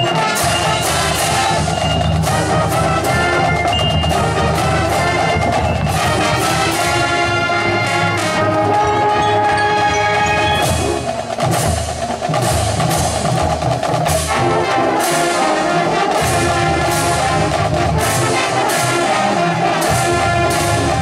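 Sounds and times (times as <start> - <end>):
brass chord: 0.0 - 11.2, 14.2 - 21.0
drumline percussion strikes: 0.0 - 21.0
marching band playing: 0.0 - 21.0.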